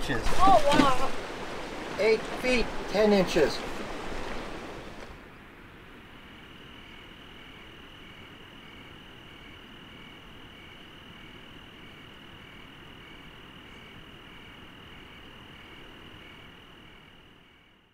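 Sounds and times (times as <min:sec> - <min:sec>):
crickets trilling: 0:00.0 - 0:17.9
insect chirp: 0:00.0 - 0:17.9.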